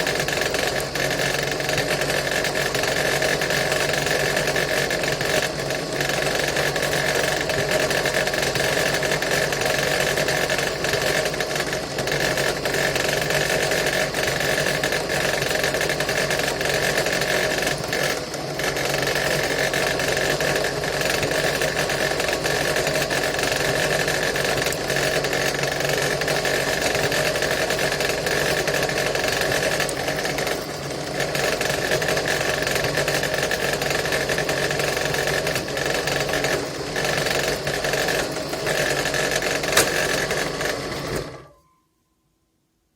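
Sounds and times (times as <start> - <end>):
drill press motor humming: 0.0 - 41.6.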